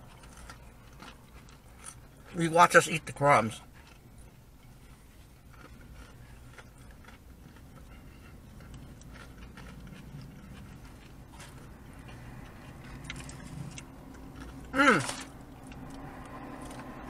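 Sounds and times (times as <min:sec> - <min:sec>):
chewing fried fish: 0:00.0 - 0:17.0
steady low hum: 0:00.0 - 0:17.0.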